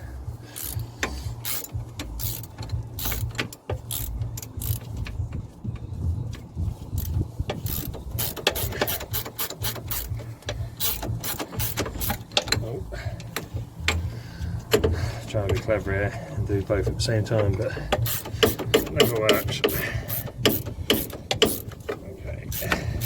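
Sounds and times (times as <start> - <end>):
ratchet spanner clicking: 0.5 - 15.8, 16.8 - 23.0.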